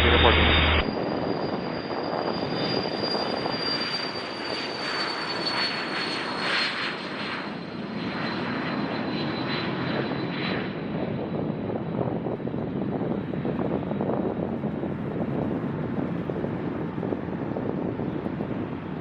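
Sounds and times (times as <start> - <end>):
jet engines roaring and whining: 0.0 - 19.0.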